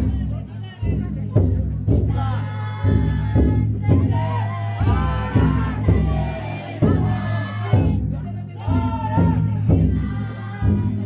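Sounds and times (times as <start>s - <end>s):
crowd chanting and singing: 0.0s - 11.0s
large drum beaten: 0.0s - 11.0s.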